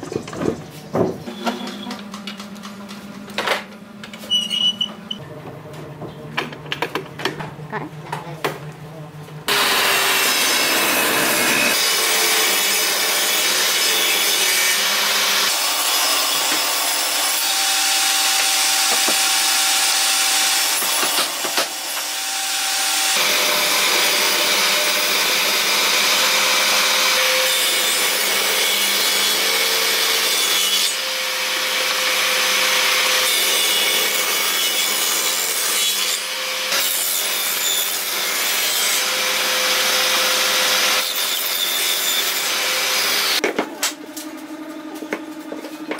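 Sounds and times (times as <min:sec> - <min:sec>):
table saw whine: 0:03.4 - 0:05.2, 0:09.5 - 0:45.9.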